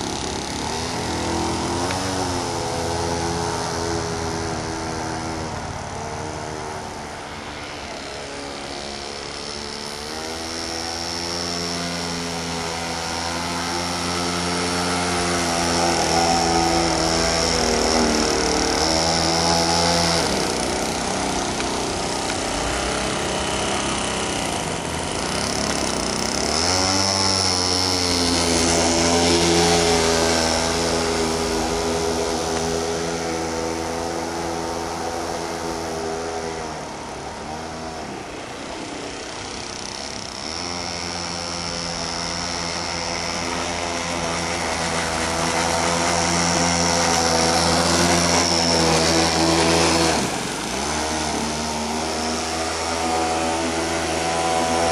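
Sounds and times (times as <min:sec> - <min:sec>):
two-stroke engine buzzing drone: 0:00.0 - 0:54.9.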